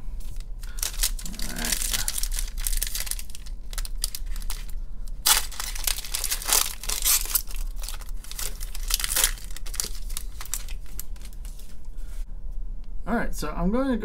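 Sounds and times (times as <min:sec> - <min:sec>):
foil wrapper tearing and crinkling: 0:00.4 - 0:11.8.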